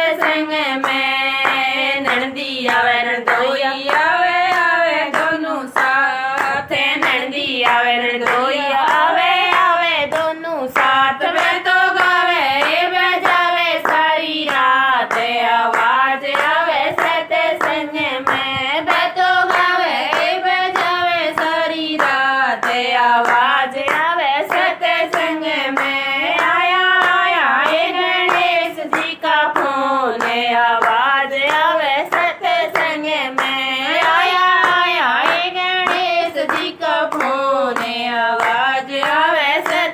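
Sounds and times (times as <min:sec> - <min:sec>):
rhythmic hand clapping: 0:00.0 - 0:39.9
women singing devotional song: 0:00.0 - 0:39.9.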